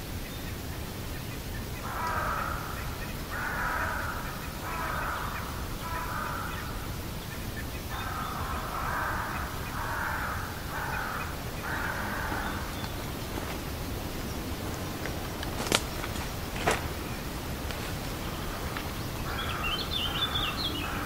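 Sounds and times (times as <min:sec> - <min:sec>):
crows cawing: 0:01.8 - 0:21.0.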